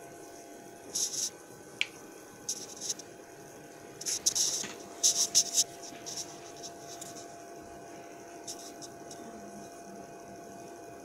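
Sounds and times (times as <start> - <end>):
copier humming with high whine: 0.0 - 11.0.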